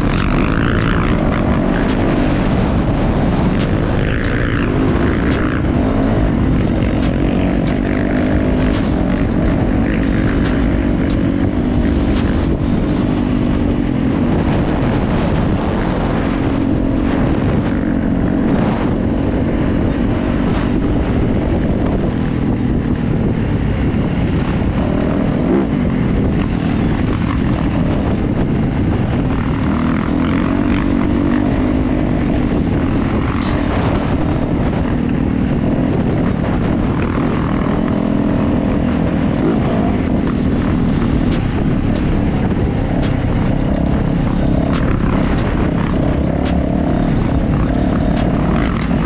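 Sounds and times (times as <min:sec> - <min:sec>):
dirt bike engine revving: 0:00.0 - 0:49.0
wind and riding noise: 0:00.0 - 0:49.0.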